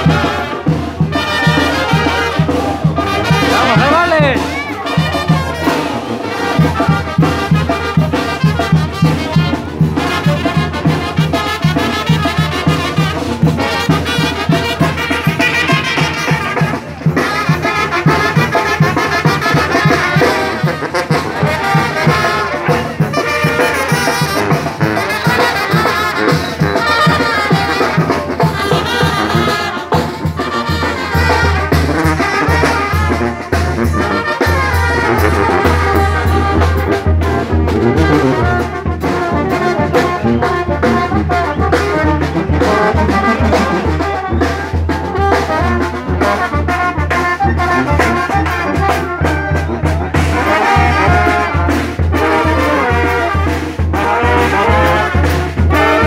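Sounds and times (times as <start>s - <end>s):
trumpets and horns: 0.0s - 56.0s.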